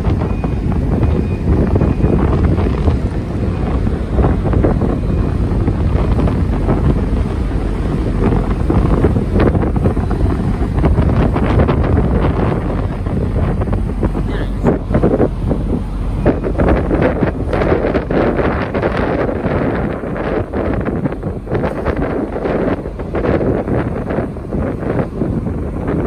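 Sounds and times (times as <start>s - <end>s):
ship engine rumble: 0.0s - 26.0s
wind buffeting microphone: 0.0s - 26.0s
propeller wash: 0.3s - 26.0s.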